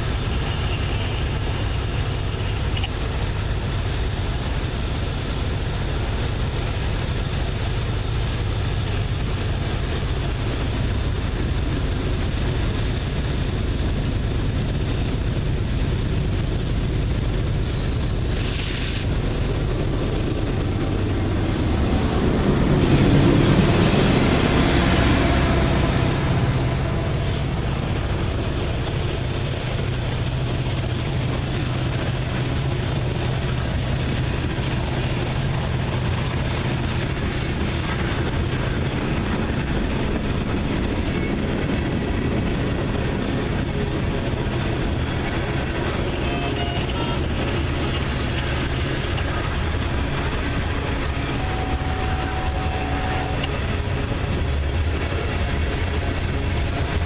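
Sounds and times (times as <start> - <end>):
diesel locomotive hum: 0.0 - 57.0
railcars rolling: 0.0 - 57.0.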